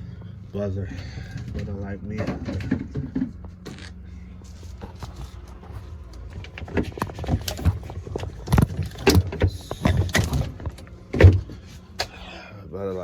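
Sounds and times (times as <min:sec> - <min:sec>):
clattering knocks and clicks: 0:01.0 - 0:04.0, 0:04.7 - 0:12.2.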